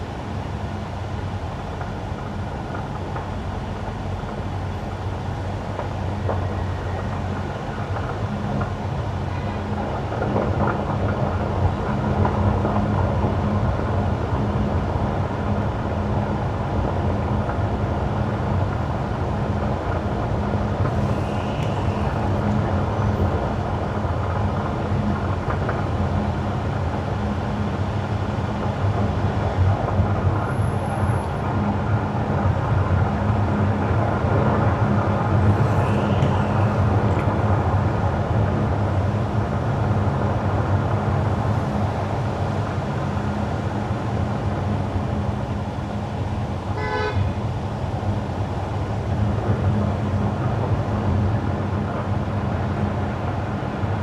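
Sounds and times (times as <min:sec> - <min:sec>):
low car hum: 0:00.0 - 0:53.9.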